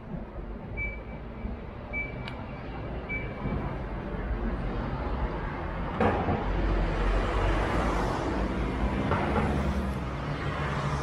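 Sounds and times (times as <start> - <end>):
passing vehicles rumble: 0.0 - 11.0.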